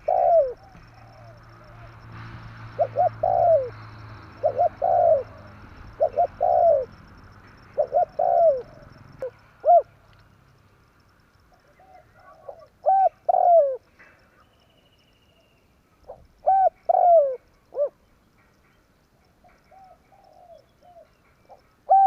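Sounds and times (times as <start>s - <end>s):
dove cooing: 0.0s - 10.0s, 11.5s - 14.7s, 16.0s - 18.0s, 19.5s - 22.0s.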